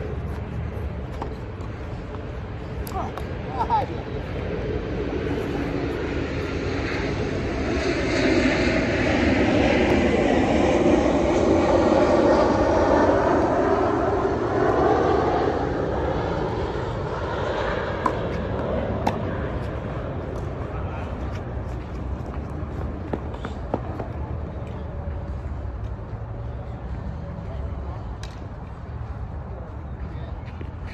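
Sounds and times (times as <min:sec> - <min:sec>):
airplane passing overhead: 0:00.0 - 0:30.9.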